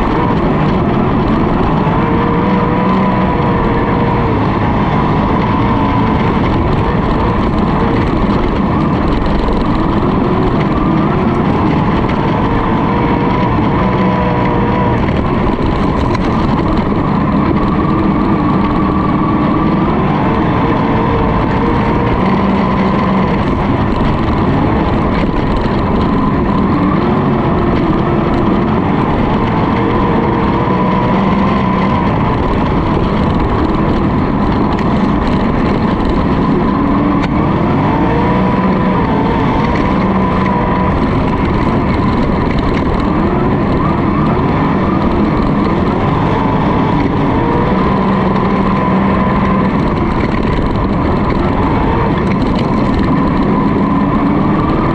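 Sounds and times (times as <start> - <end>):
racing car engine: 0.0 - 54.9.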